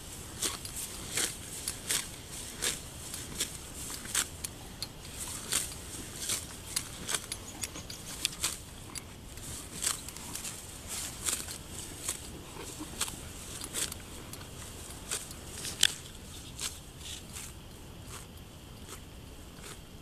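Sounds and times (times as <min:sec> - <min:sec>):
cow tearing grass: 0:00.0 - 0:19.0.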